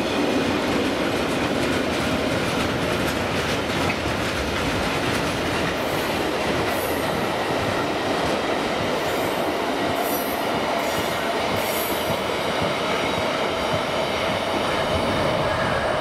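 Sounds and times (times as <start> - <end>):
freight train wheels rumbling on track: 0.0 - 16.0.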